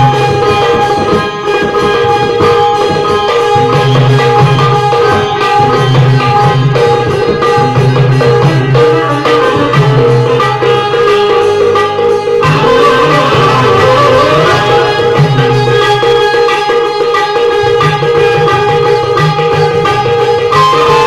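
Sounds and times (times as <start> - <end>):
banjo melody: 0.0 - 21.0
barrel drum rhythm: 0.0 - 21.0.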